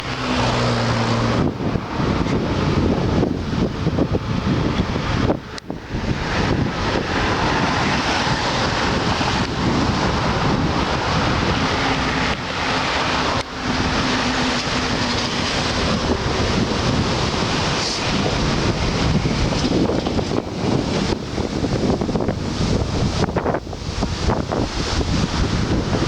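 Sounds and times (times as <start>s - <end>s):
road and engine noise: 0.0s - 26.0s
wind buffeting microphone: 0.0s - 26.0s.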